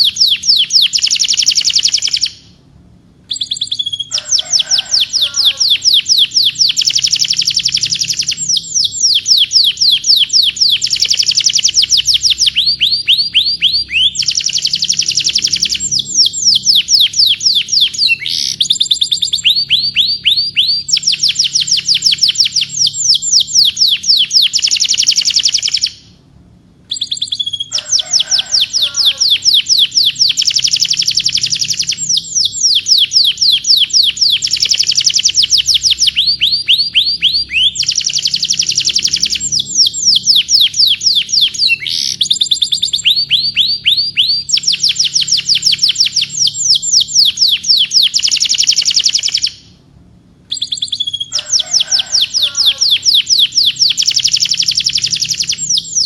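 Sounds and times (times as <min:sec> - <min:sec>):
canary singing trills: 0:00.0 - 0:02.6, 0:03.3 - 0:26.2, 0:26.9 - 0:49.8, 0:50.5 - 0:56.0.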